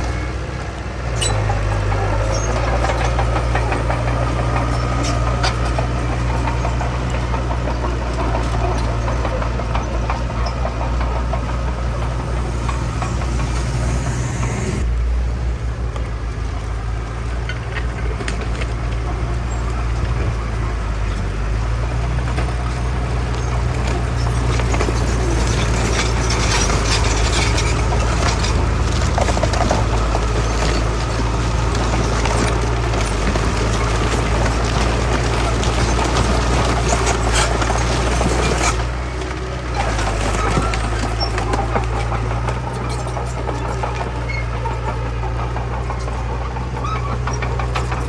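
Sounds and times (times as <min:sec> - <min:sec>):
heavy machinery engine drone: 0:00.0 - 0:48.0.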